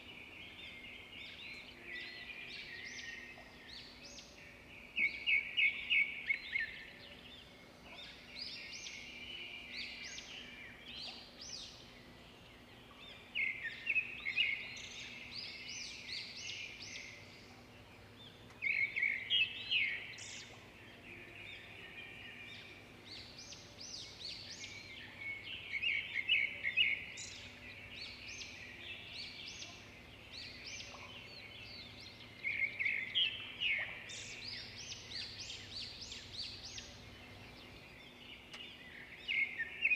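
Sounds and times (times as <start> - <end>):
faint steady hum: 0.0 - 39.9
small birds chirping: 0.0 - 39.9.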